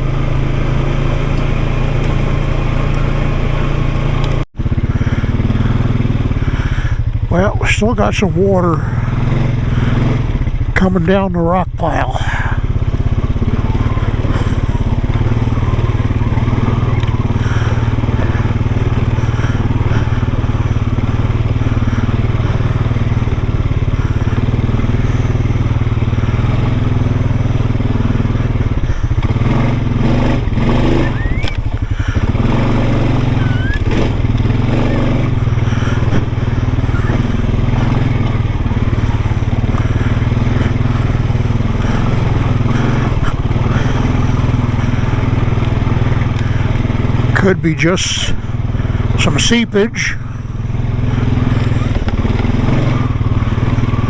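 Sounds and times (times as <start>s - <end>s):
atv engine running: 0.0s - 54.0s
tyres crunching over gravel: 0.0s - 54.0s.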